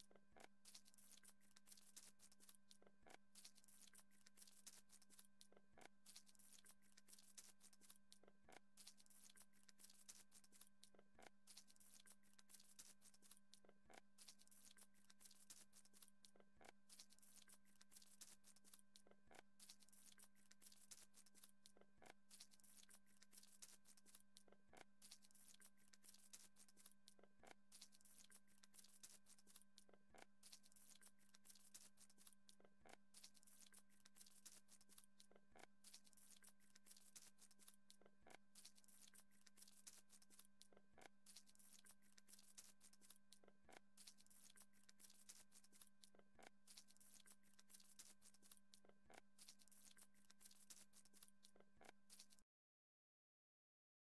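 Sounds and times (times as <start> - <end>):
faint steady hum: 0.0 - 52.4.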